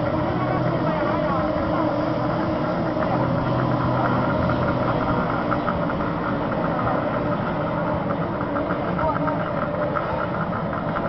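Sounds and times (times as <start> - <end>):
outboard motors running: 0.0 - 11.0.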